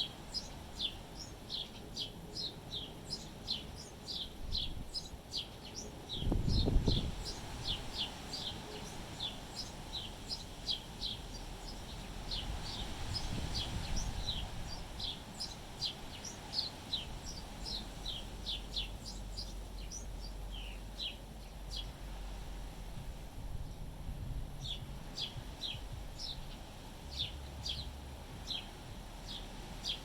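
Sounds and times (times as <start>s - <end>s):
small birds chirping: 0.0s - 30.0s
wind rumble on microphone: 0.1s - 30.0s.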